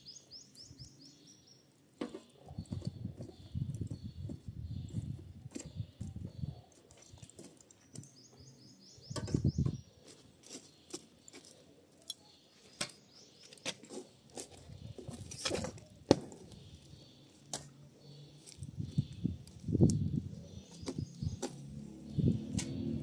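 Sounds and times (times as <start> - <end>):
small bird twittering: 0.0 - 10.1, 14.5 - 22.9.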